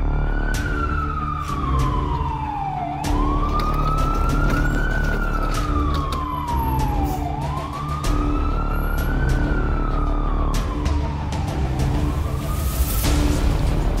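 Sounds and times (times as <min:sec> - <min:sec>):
ambulance siren wailing: 0:00.0 - 0:13.1.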